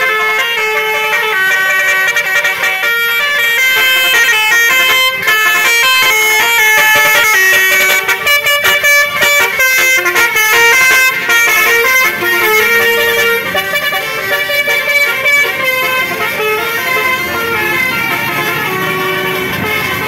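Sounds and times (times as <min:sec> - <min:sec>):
bus multi-tone horns melody: 0:00.0 - 0:20.0.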